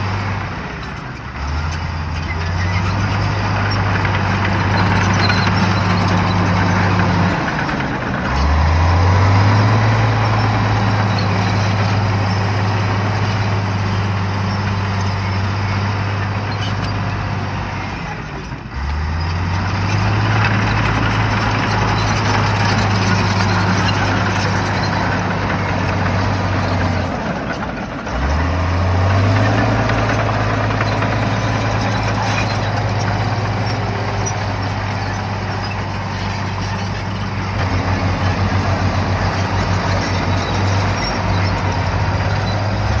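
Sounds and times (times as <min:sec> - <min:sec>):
bulldozer diesel engine under load: 0:00.0 - 0:43.0.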